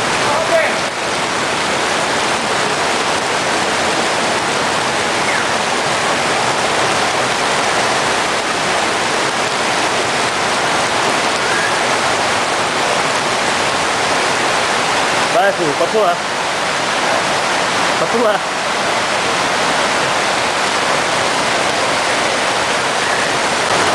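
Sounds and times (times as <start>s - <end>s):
heavy rain pouring: 0.0s - 23.9s
running water: 0.0s - 23.9s.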